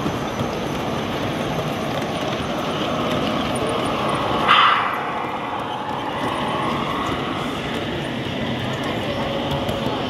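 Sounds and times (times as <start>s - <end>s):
hall background noise: 0.0s - 10.0s
model trains rolling: 0.0s - 10.0s.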